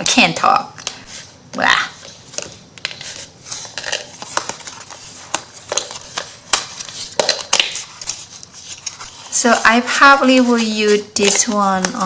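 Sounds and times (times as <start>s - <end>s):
light rustling of paper: 2.1s - 12.0s.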